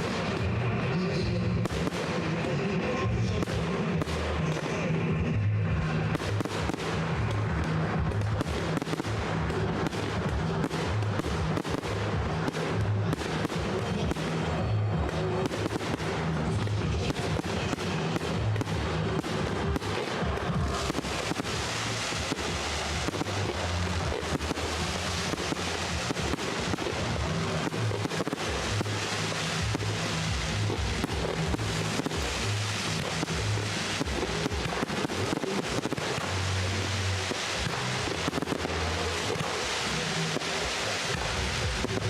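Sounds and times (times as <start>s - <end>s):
dense crackling hiss: 0.0s - 42.0s
fireworks bursting and crackling: 0.0s - 42.0s
music with steady bass line: 0.0s - 42.0s.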